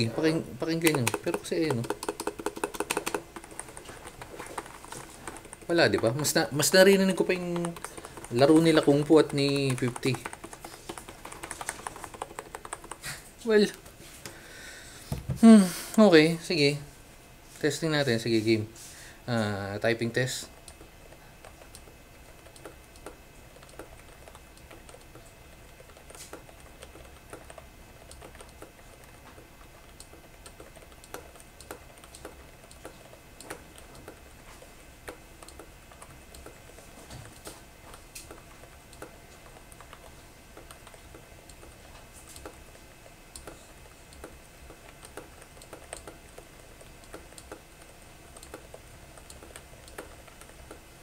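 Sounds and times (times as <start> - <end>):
keyboard typing: 0.0 - 13.8, 19.8 - 51.0.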